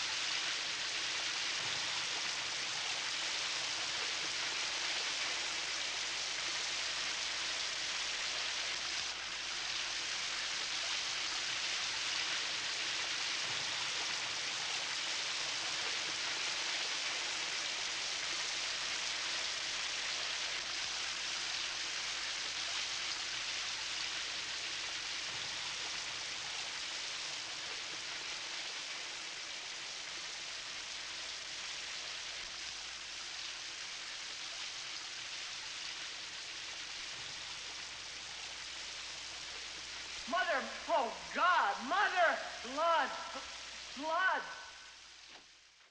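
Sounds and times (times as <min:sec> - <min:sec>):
shower water spraying into tub: 0:00.0 - 0:40.3.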